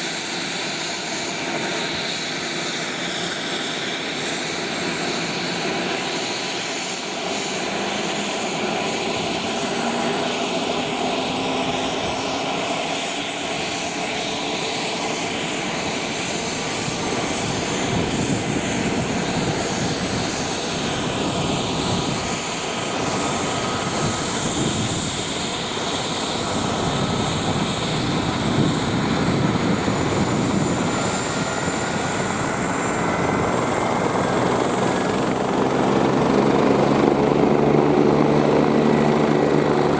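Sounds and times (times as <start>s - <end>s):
helicopter engines and rotor drone: 0.0s - 39.9s.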